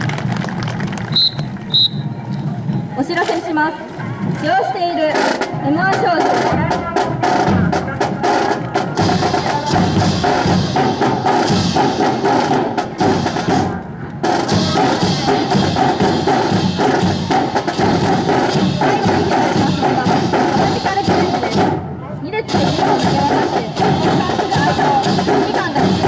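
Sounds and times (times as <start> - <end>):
marching steps: 0.0 - 26.0
music with percussive beat: 4.2 - 21.9, 22.5 - 26.0.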